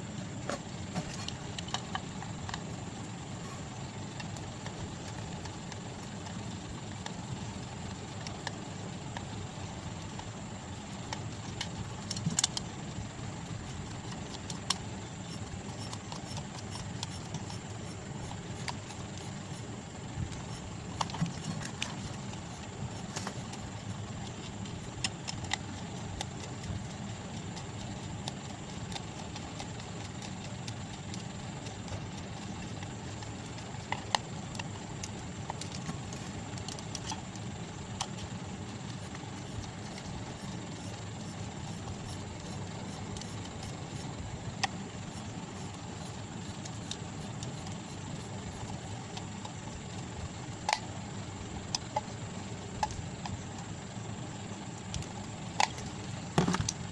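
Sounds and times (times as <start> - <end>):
low background hum: 0.0 - 56.9.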